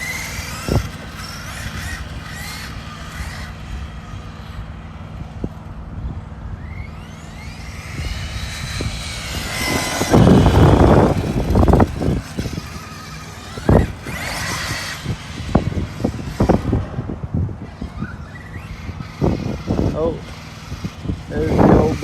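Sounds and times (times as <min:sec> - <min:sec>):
loud rough rush: 0:00.0 - 0:05.6, 0:06.6 - 0:22.0
electric motor whine: 0:00.0 - 0:22.0.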